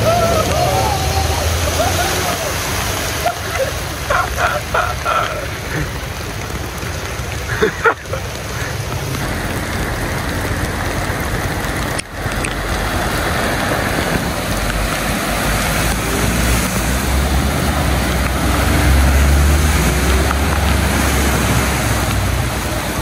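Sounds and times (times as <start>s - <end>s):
cars wading through floodwater: 0.0s - 23.0s
heavy rain on pavement: 0.0s - 23.0s
running water: 0.0s - 23.0s.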